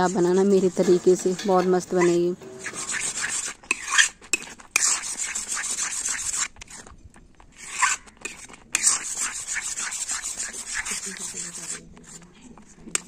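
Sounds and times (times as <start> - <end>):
metal spatula scraping pan: 0.0 - 6.9, 7.5 - 12.2.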